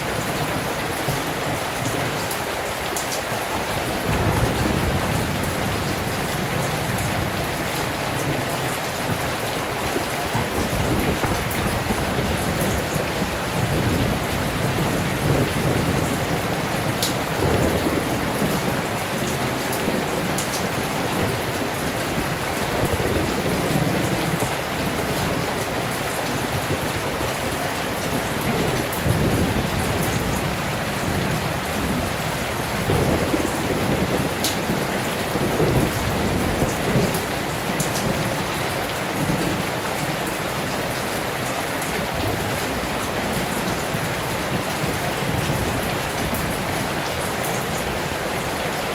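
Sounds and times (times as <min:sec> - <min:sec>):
heavy rain with wind: 0:00.0 - 0:48.9.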